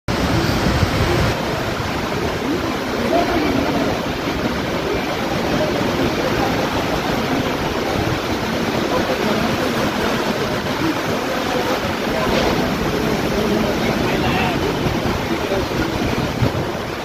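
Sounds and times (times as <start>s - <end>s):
heavy rain falling: 0.1s - 17.0s.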